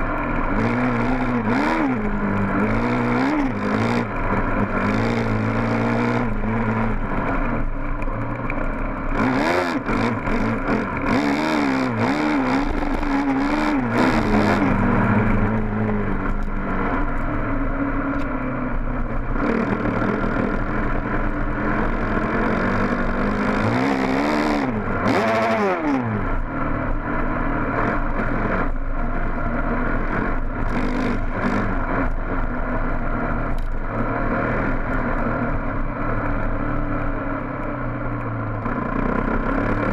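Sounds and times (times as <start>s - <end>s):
dirt bike engine revving: 0.0s - 17.2s, 19.0s - 33.2s, 38.5s - 39.9s
clatter: 0.0s - 39.9s.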